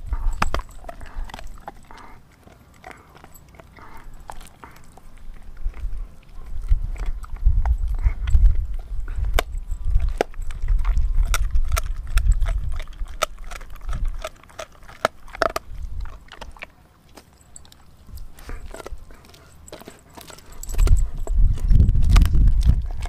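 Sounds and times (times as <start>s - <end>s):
dog teeth cracking frozen bone: 0.0s - 23.0s.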